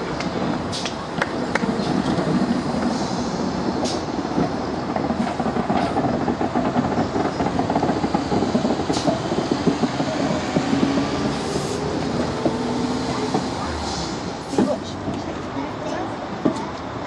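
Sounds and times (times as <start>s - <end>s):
train wheels rumbling and clanking: 0.0s - 17.0s.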